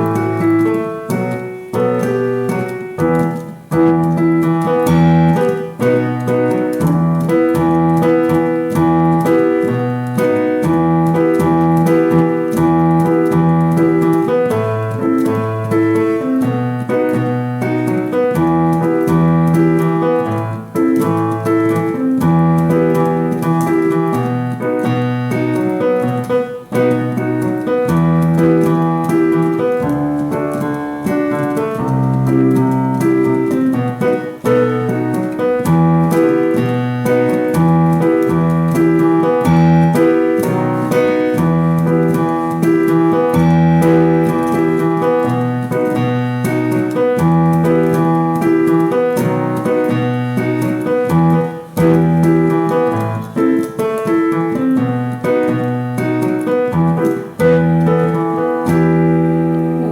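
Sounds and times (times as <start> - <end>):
piano keyboard backing track: 0.0 - 59.9.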